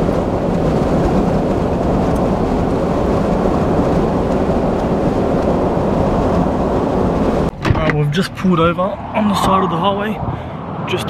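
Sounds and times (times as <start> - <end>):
vehicle road noise: 0.0 - 11.0
wind rushing over microphone: 0.0 - 11.0.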